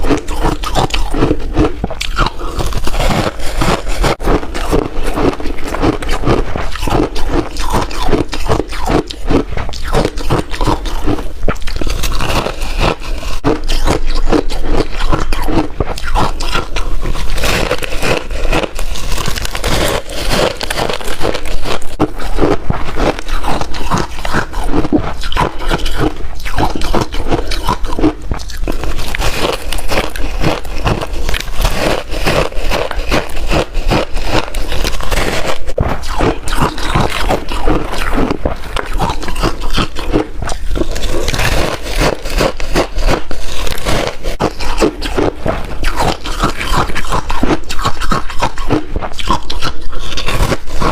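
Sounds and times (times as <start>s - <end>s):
ice crunching between teeth: 0.0s - 50.9s.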